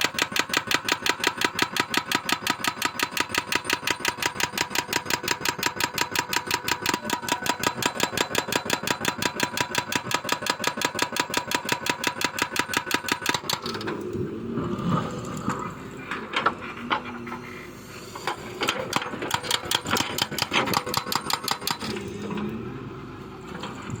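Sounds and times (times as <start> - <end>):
excavator motor pulsing: 0.0 - 24.0.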